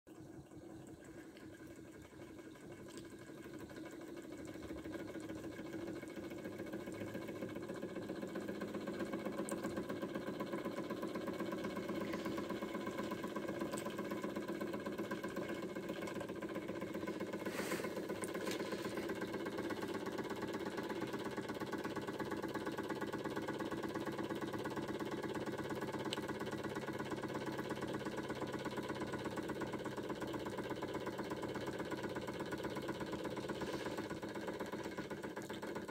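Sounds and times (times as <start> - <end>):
hot air engine running: 0.4 - 35.9.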